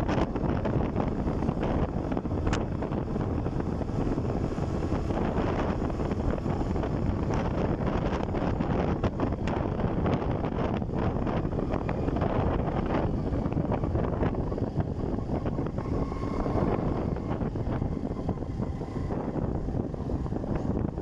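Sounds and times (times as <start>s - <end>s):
scooter engine running: 0.0s - 21.0s
wind rushing over microphone: 0.0s - 21.0s.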